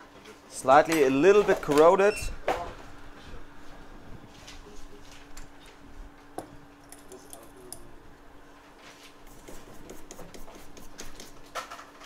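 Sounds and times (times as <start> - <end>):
steady low hum: 0.6 - 11.6.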